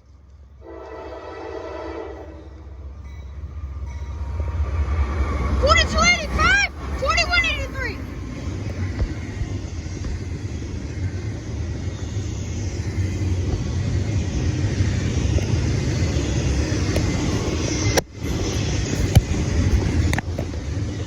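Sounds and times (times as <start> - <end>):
train rumbling on tracks: 0.0 - 21.0.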